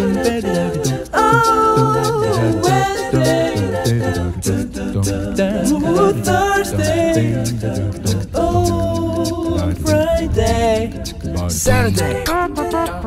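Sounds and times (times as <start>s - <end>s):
song over low beat: 0.0s - 13.0s.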